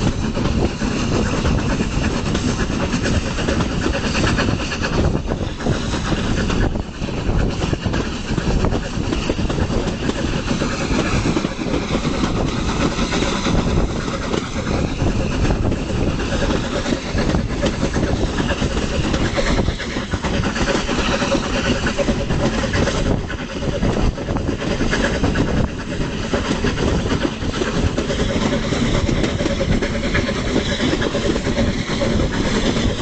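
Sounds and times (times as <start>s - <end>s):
train wheels on rails: 0.0s - 33.0s
wind buffeting microphone: 0.0s - 33.0s.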